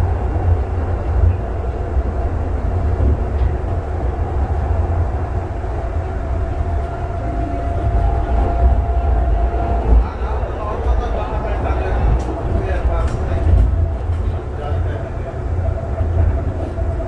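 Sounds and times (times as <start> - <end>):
light rail car rumbling on track: 0.0 - 17.0.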